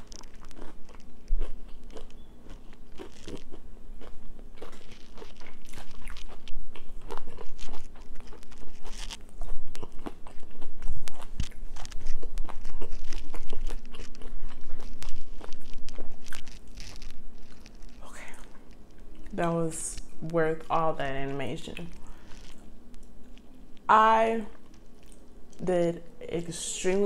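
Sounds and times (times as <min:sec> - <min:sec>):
person chewing crunchy food: 0:00.0 - 0:19.4, 0:21.8 - 0:23.9, 0:24.5 - 0:25.6.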